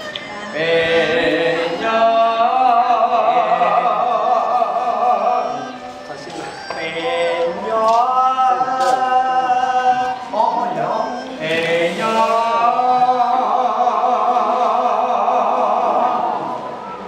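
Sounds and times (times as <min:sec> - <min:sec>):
men singing slow song: 0:00.5 - 0:05.8, 0:06.6 - 0:16.6.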